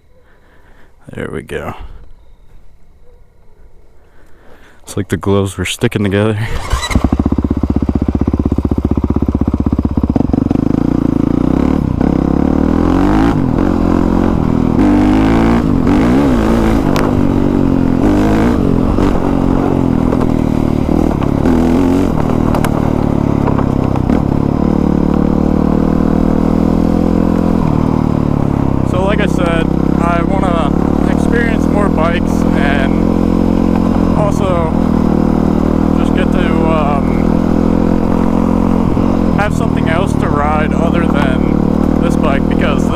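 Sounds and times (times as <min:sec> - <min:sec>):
motorcycle engine revving: 0:06.4 - 0:42.9.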